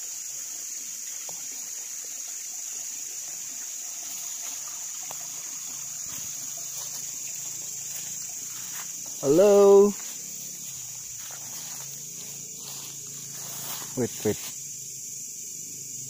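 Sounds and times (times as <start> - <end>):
water trickling: 0.0 - 14.9
high-pitched hiss: 0.0 - 16.0.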